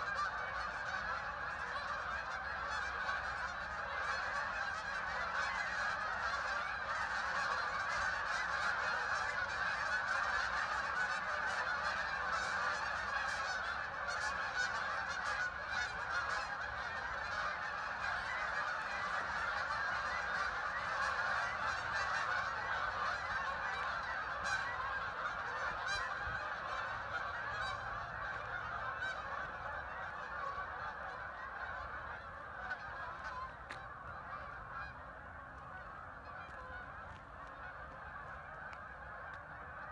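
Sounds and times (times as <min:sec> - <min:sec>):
flock of waterfowl calling: 0:00.0 - 0:39.9.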